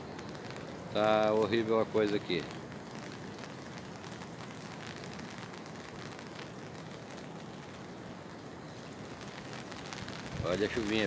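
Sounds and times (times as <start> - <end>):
raindrops pattering on umbrella: 0.0 - 11.0
steady rain: 0.0 - 11.0.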